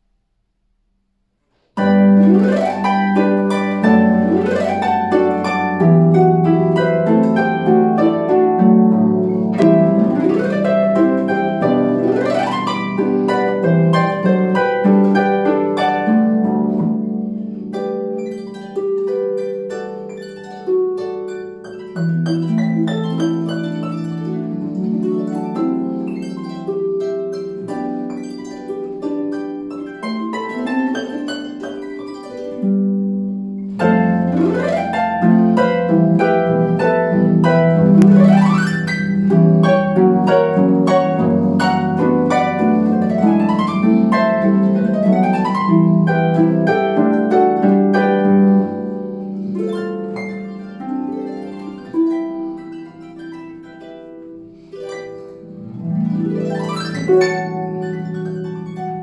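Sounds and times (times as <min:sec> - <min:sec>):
harp playing: 0:01.6 - 0:59.0.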